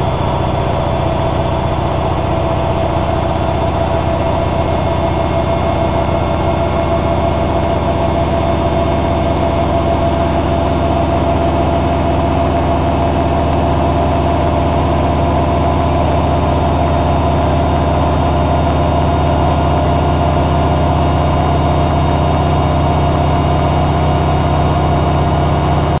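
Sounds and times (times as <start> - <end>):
washing machine spinning: 0.0 - 26.0.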